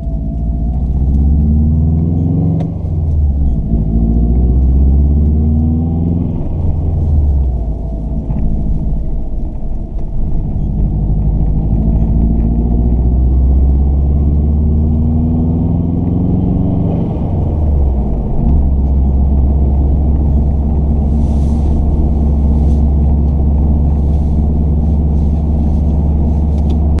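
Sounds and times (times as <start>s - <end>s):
car engine: 0.0s - 27.0s
wind rumble on microphone: 0.0s - 27.0s.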